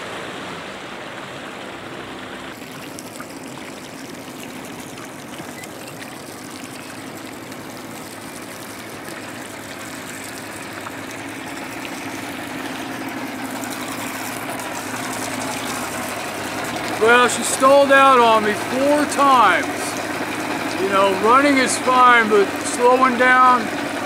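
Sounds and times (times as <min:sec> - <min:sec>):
outboard motor running: 0:00.0 - 0:24.0
water rushing along boat: 0:00.0 - 0:24.0.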